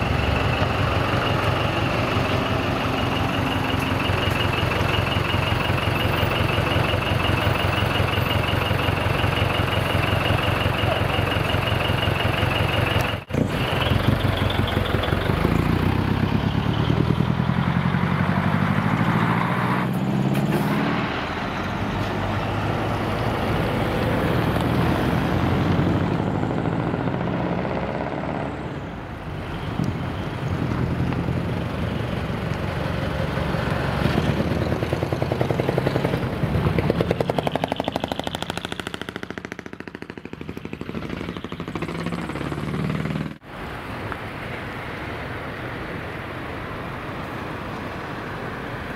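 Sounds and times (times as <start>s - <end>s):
truck engines pulling away: 0.0s - 43.9s.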